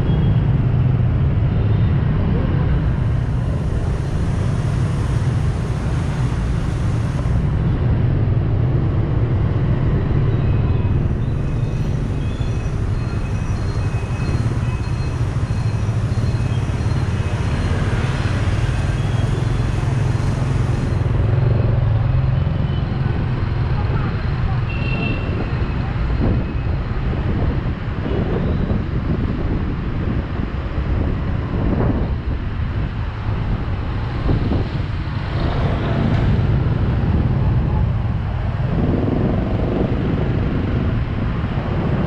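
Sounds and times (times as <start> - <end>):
scooter engine and road noise: 0.0 - 42.0
surrounding motorbikes and cars: 0.0 - 42.0.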